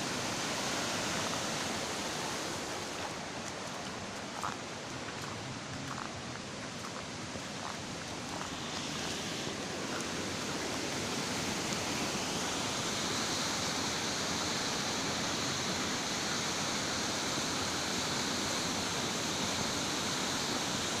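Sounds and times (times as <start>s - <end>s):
flood water rushing: 0.0s - 21.0s.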